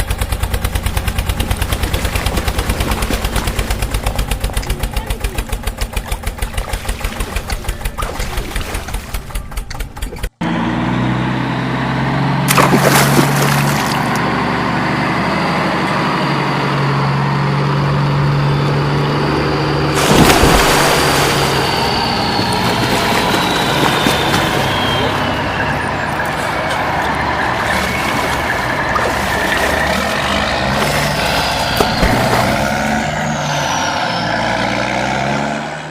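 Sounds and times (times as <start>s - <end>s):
vehicle engine running: 0.0s - 35.1s.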